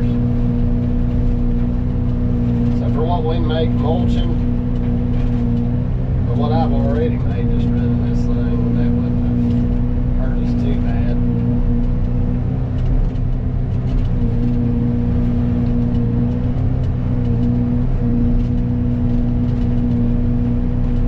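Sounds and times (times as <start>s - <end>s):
forestry mulcher droning: 0.0s - 21.0s.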